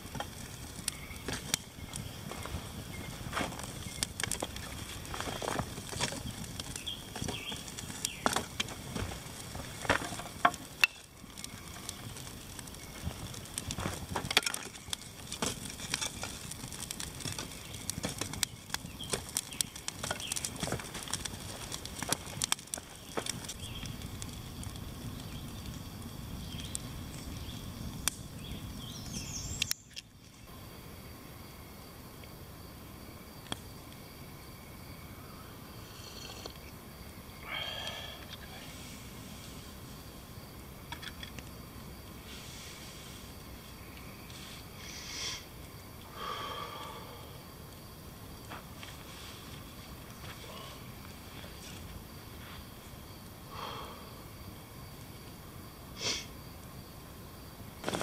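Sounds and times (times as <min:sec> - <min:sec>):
campfire crackling and popping: 0:00.0 - 0:31.1, 0:32.1 - 0:58.0
steady hiss: 0:00.0 - 0:58.0.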